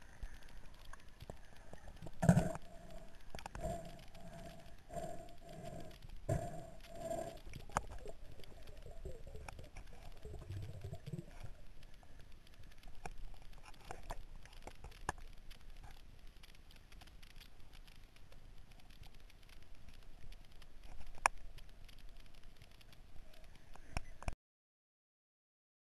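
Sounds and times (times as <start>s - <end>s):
underwater rumble: 0.0s - 24.2s
sharp underwater clicks: 0.0s - 24.4s.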